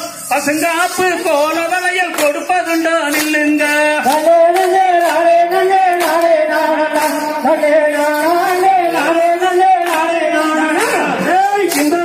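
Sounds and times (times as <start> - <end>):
person singing folk melody: 0.0 - 12.0
steady drum beats: 0.1 - 12.0.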